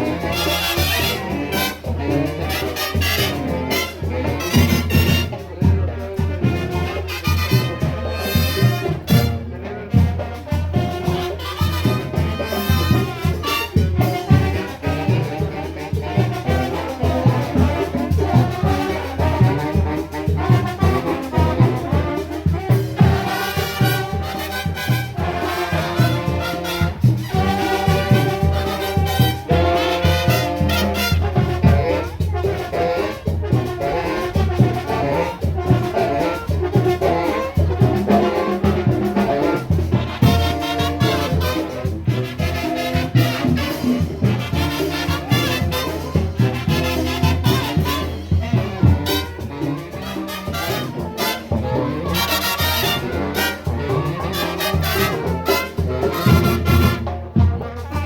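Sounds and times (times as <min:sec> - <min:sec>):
brass melody: 0:00.0 - 0:58.0
marching drum beat: 0:00.0 - 0:58.0.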